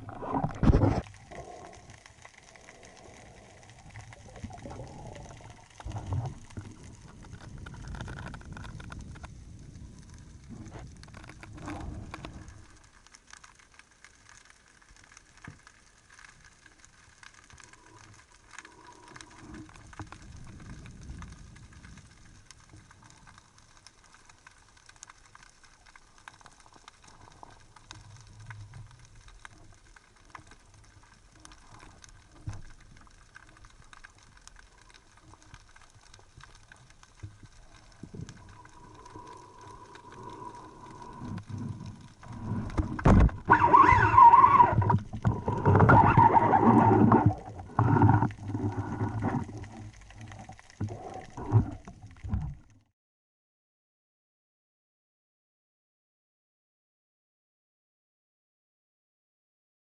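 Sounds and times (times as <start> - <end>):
underwater crackle of small clicks: 0.0 - 52.9.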